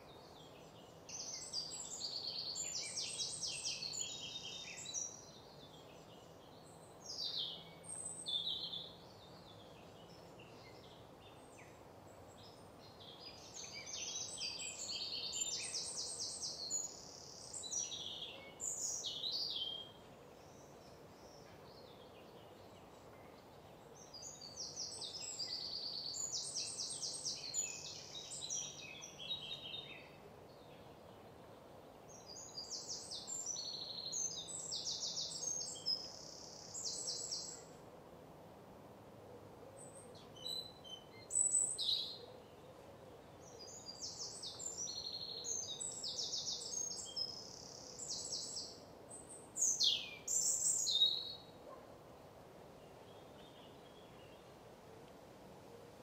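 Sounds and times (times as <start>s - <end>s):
faint steady background hiss: 0.0s - 56.0s.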